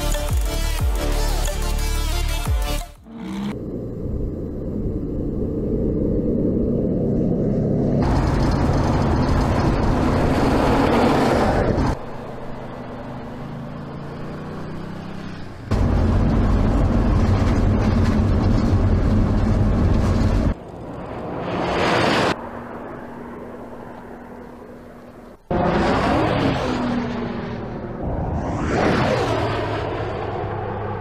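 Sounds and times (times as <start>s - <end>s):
car engine at full throttle: 3.0s - 28.7s.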